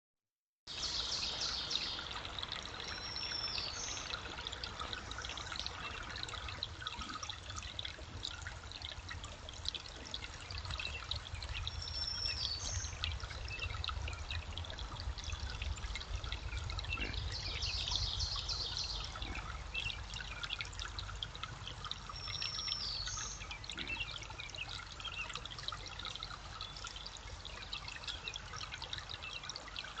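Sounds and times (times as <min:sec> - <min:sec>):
running water trickling: 0:00.7 - 0:30.0.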